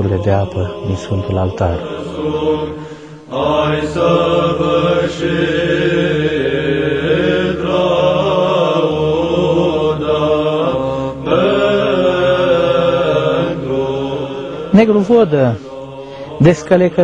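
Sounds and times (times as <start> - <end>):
low drone: 0.0 - 17.0
voices chanting slow melody: 0.0 - 17.0.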